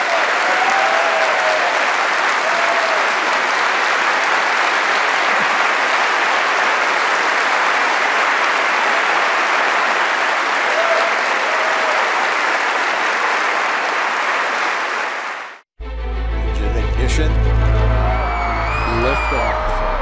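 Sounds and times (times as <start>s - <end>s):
large audience applauding: 0.0s - 15.6s, 17.8s - 20.0s.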